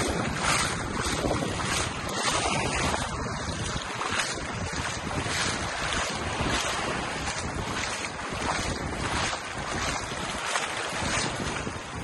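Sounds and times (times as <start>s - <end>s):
small waves washing: 0.0s - 12.0s
wind buffeting microphone: 0.0s - 12.0s.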